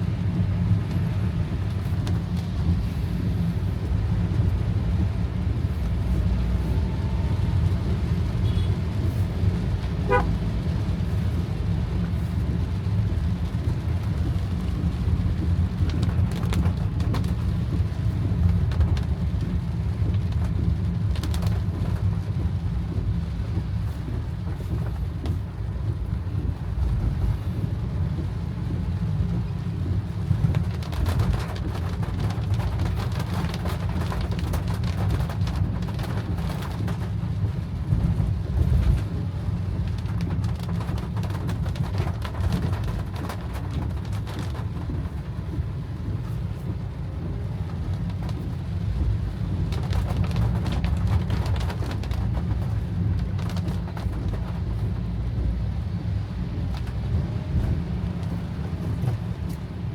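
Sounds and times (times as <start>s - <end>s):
car interior rumble: 0.0s - 59.9s
heavy rain on a car: 0.0s - 59.9s.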